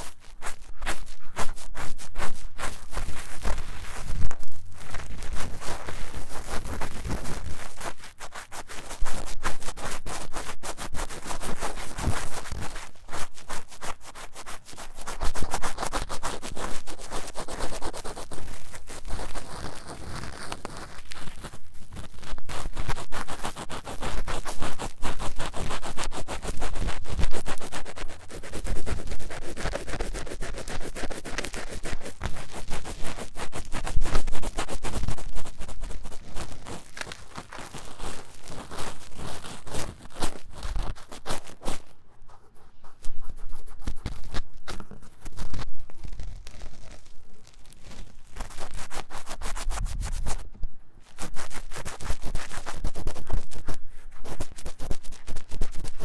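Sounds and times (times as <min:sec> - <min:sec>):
scratching inside microphone ear: 0:00.0 - 0:56.0.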